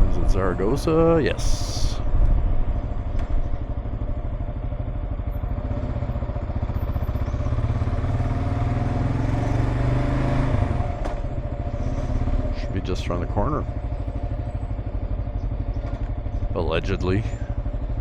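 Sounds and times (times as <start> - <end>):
single-cylinder motorcycle engine: 0.0 - 18.0.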